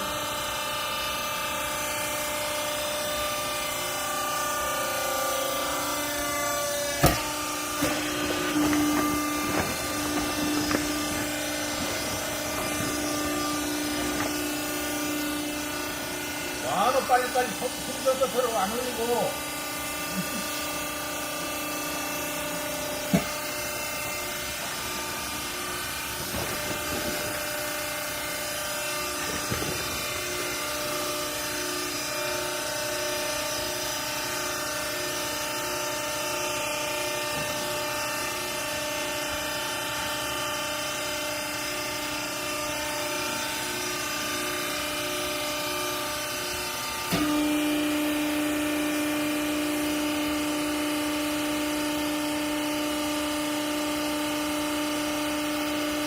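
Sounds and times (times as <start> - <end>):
hydraulic press motor humming: 0.0 - 56.0.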